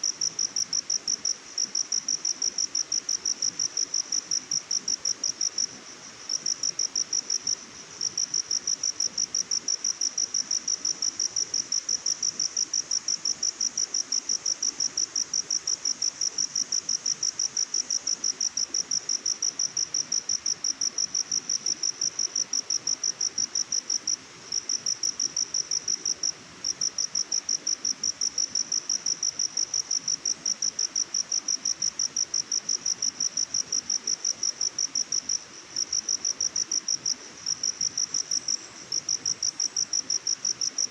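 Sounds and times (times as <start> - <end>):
cricket chirping: 0.0 - 40.9
soft steady hiss: 0.0 - 40.9.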